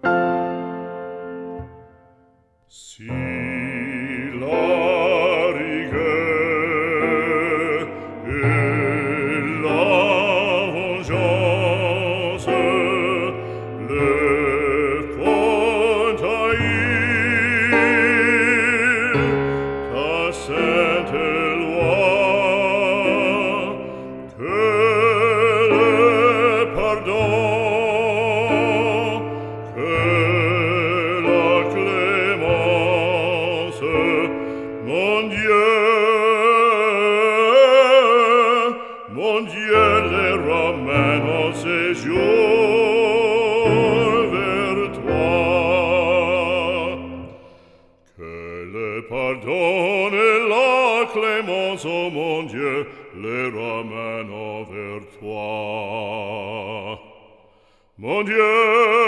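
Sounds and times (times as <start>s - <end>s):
operatic voice singing: 2.7s - 59.0s.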